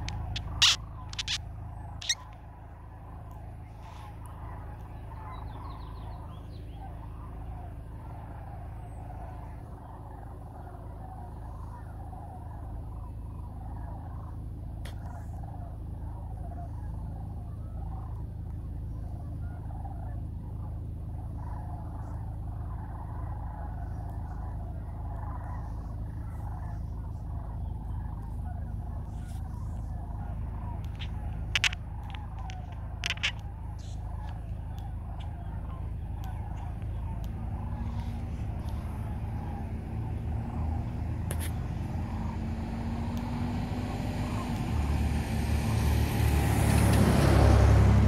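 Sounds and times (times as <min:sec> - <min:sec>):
cranes trumpeting calls: 0:00.0 - 0:48.0
low background rumble: 0:00.0 - 0:48.0.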